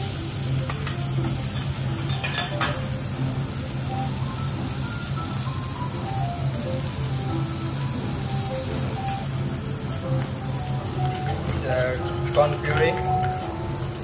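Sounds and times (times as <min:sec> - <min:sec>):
fish sizzling on a griddle: 0:00.0 - 0:14.0.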